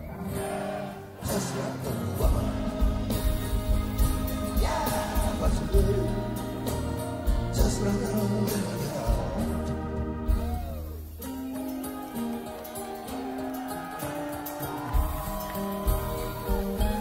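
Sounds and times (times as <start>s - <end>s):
live rock band playing: 1.2s - 17.0s.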